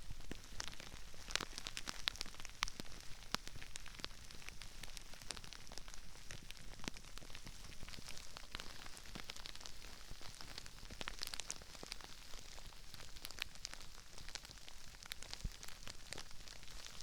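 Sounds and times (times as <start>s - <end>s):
crispy rice crackling: 0.0s - 17.0s.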